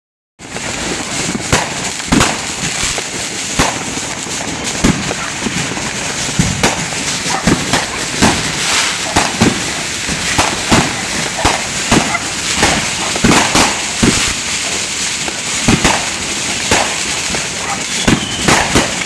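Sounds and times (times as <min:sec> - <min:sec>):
fireworks bangs and pops: 0:00.4 - 0:19.0
hiss of burning fireworks: 0:00.4 - 0:19.0.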